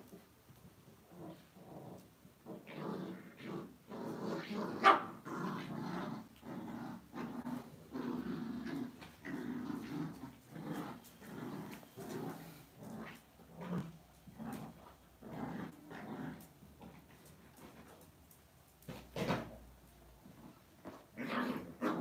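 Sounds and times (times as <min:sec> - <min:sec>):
dogs growling in play: 0:00.9 - 0:18.0, 0:20.2 - 0:22.0.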